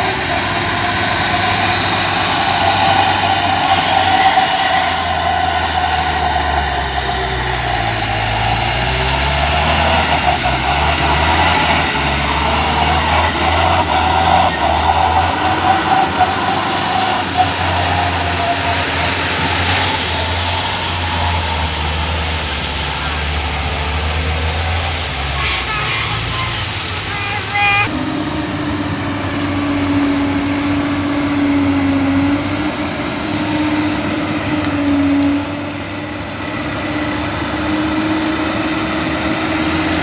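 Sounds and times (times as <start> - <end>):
heavy diesel engine under load: 0.0 - 40.0.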